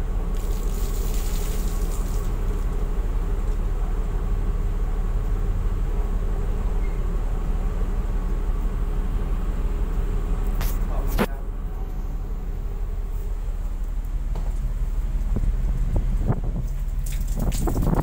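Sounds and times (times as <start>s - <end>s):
ship low rumble: 0.0s - 18.0s.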